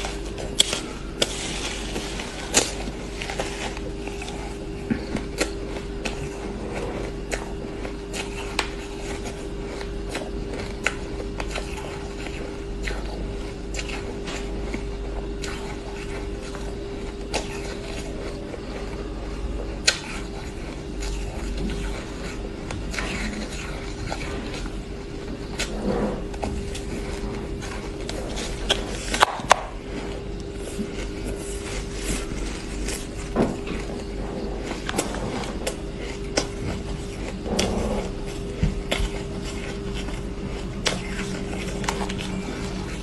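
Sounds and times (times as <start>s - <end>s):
steady hum: 0.0s - 43.0s.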